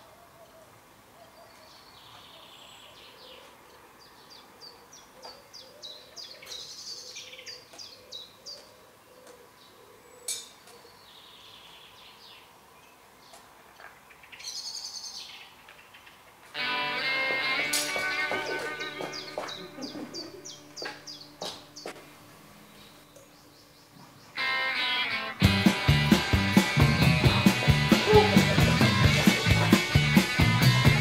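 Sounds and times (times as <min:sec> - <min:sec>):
birds singing and chirping: 0:00.4 - 0:22.0, 0:22.6 - 0:25.0, 0:25.6 - 0:31.0.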